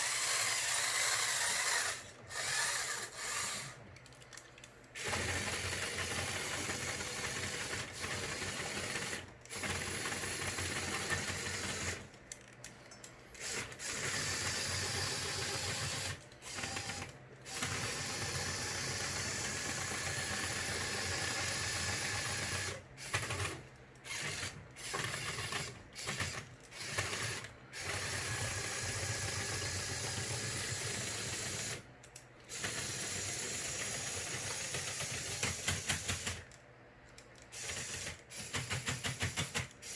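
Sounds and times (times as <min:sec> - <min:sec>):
toy motors and gears whirring: 0:00.0 - 0:39.9.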